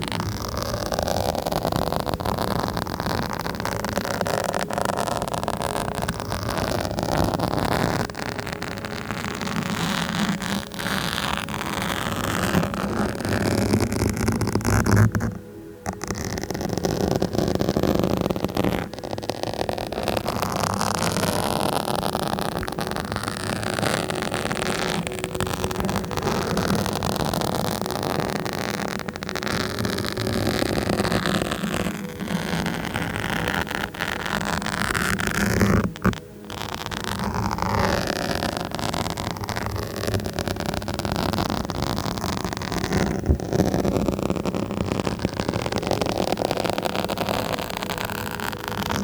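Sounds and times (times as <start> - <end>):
rough scratching on microphone: 0.0 - 49.0.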